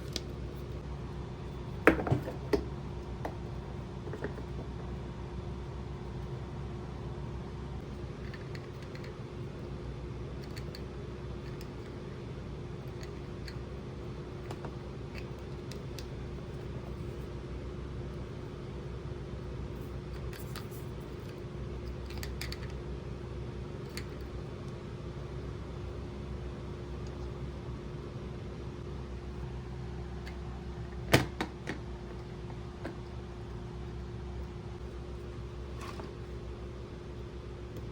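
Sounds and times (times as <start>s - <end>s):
steady background hum: 0.0s - 37.9s.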